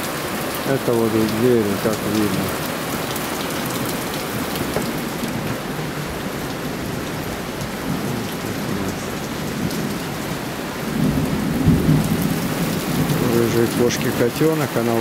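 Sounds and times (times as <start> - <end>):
heavy rain pouring: 0.0 - 15.0
thunder rumbling: 0.9 - 14.8.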